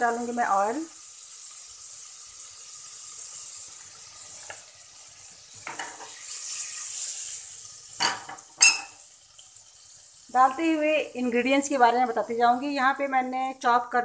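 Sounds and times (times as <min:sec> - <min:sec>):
butter and oil sizzling: 0:00.0 - 0:14.0.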